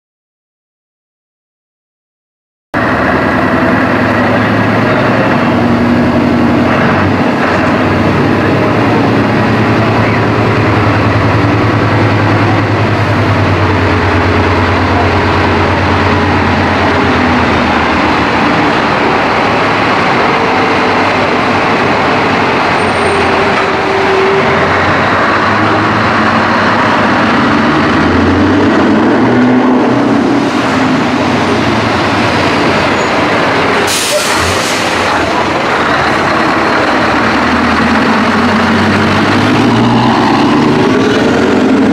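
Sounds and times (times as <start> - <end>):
diesel truck exhaust running: 2.8 - 41.9.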